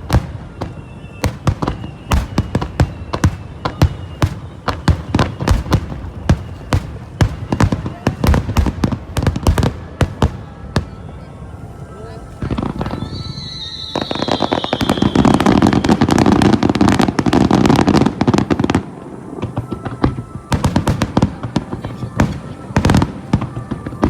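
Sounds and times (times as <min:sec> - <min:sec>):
fireworks bursts and booms: 0:00.0 - 0:24.0.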